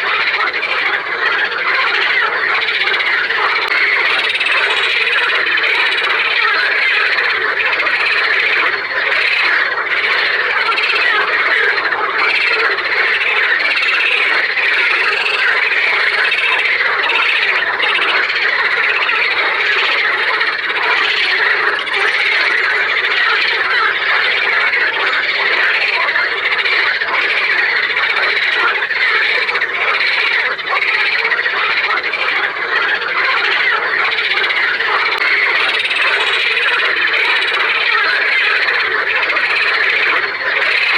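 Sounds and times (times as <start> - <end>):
chorus of frogs croaking: 0.0 - 40.9.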